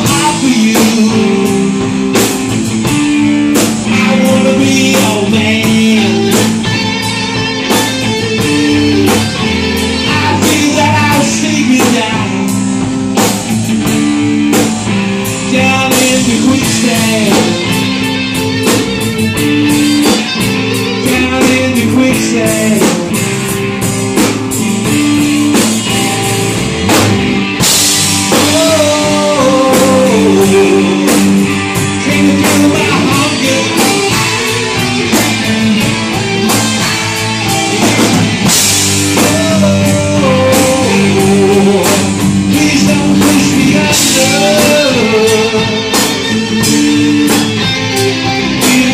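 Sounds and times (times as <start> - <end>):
man singing: 0.0 - 13.4, 15.2 - 23.9, 28.0 - 48.9
rock band playing: 0.0 - 48.9.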